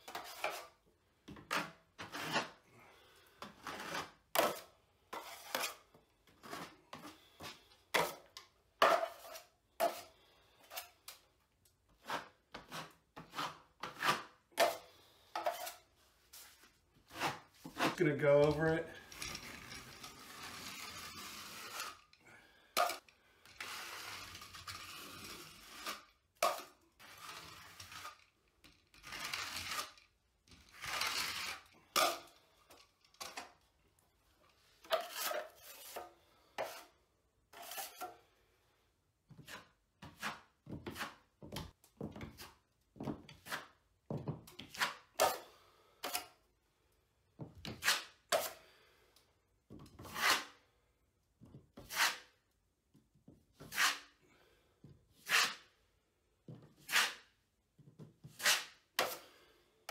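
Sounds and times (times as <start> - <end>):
drywall knife scraping compound: 0.0 - 46.5, 47.6 - 49.2, 49.8 - 50.9, 51.6 - 52.6, 53.4 - 56.0, 56.6 - 59.9.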